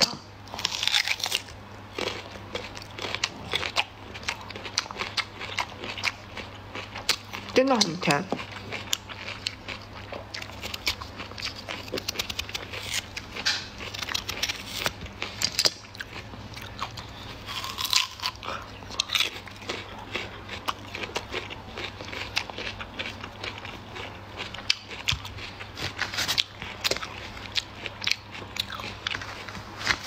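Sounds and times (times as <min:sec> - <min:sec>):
chewing crisp fruit crunches: 0:00.0 - 0:30.0.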